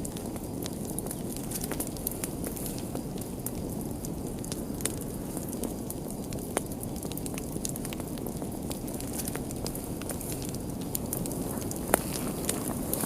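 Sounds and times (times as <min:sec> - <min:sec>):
fire crackling: 0:00.0 - 0:13.0
fire pops and snaps: 0:00.0 - 0:13.0.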